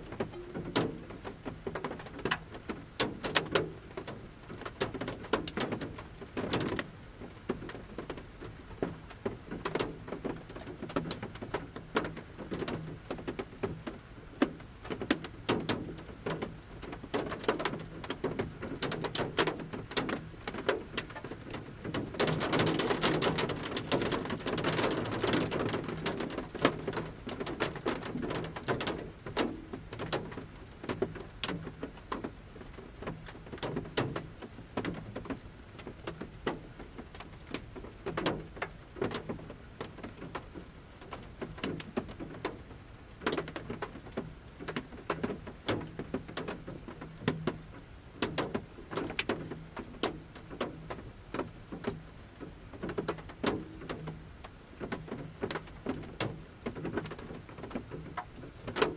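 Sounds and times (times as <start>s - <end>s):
raindrops tapping on vehicle roof: 0.0s - 58.9s.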